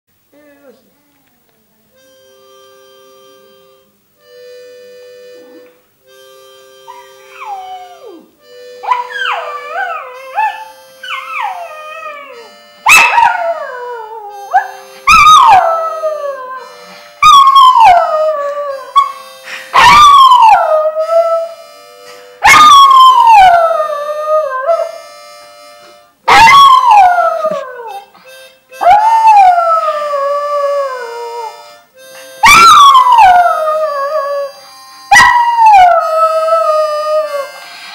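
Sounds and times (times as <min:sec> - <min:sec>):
harmonica notes: 0:01.9 - 0:37.9.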